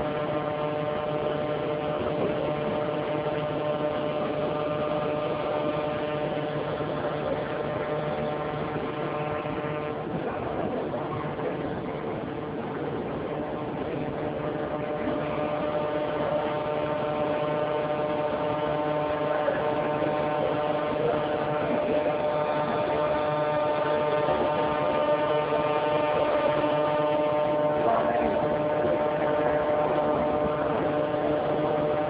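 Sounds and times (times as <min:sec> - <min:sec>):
steady electric hum: 0:00.0 - 0:32.0.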